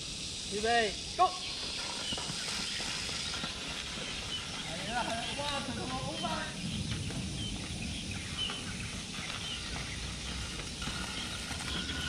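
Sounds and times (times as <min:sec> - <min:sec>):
wind rumble on microphone: 0:01.8 - 0:12.0.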